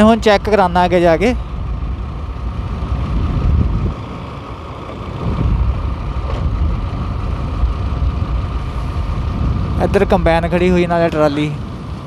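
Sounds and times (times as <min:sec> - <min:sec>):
motorcycle engine rumble: 0:00.0 - 0:12.0
wind noise: 0:01.4 - 0:12.0.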